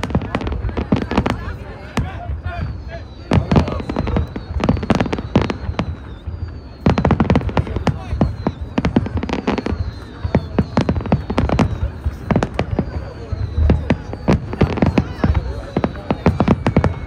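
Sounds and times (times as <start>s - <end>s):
falling firework whistles: 0.0s - 17.0s
fireworks bangs and cracks: 0.0s - 17.0s.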